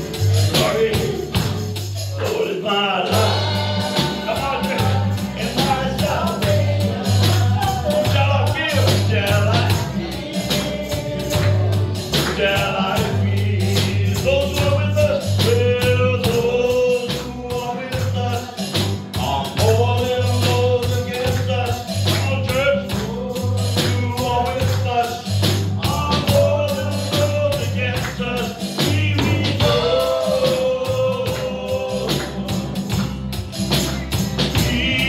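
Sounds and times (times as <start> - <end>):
low bass notes: 0.0 - 2.4, 3.1 - 35.0
man singing into a microphone: 0.0 - 33.2, 34.5 - 35.0
acoustic guitar: 0.0 - 35.0
drums with steady beat: 0.0 - 35.0.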